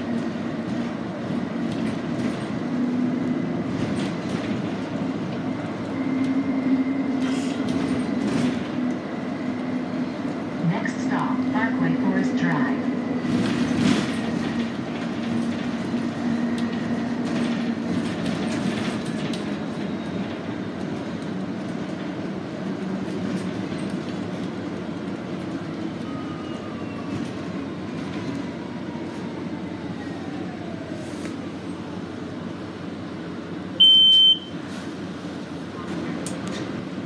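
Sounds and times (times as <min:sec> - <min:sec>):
bus drivetrain and road noise: 0:00.0 - 0:37.0.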